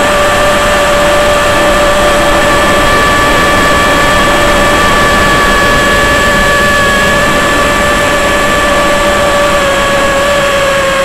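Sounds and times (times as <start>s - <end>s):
model plane motor whine: 0.0s - 11.0s
wind rushing: 0.3s - 11.0s.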